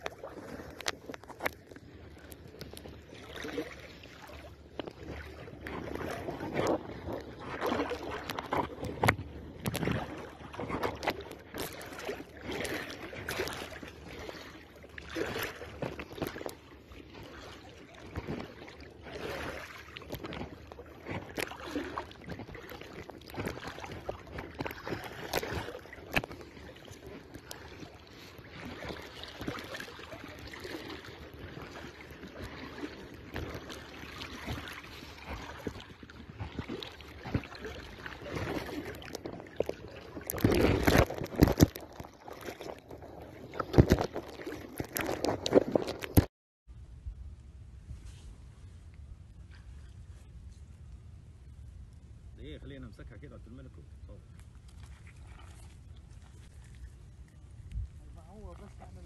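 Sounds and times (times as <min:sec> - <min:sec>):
seawater sloshing while wading: 0:00.0 - 0:46.3, 0:54.2 - 0:59.0.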